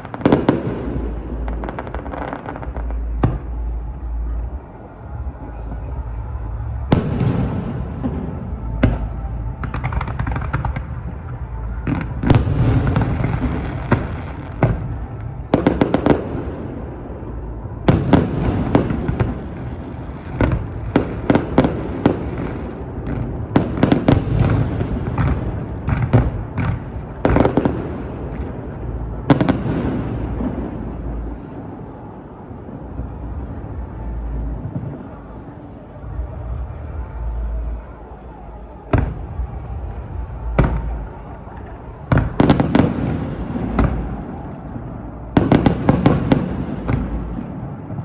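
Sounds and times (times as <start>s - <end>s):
continuous low rumble: 0.0s - 48.0s
fireworks bursting with sharp bangs: 0.0s - 48.0s.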